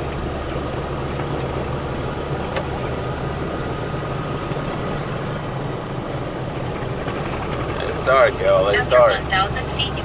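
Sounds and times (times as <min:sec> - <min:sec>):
truck engine and road hum: 0:00.0 - 0:10.0.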